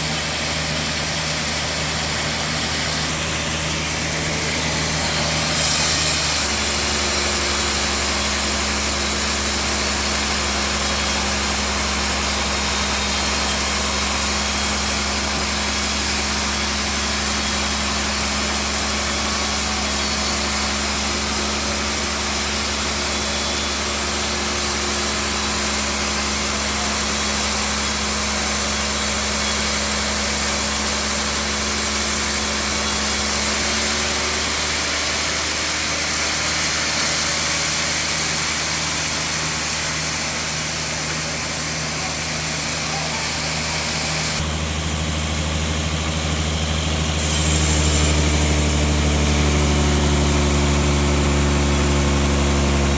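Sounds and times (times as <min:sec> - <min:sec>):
bandsaw machinery running: 0:00.0 - 0:52.9.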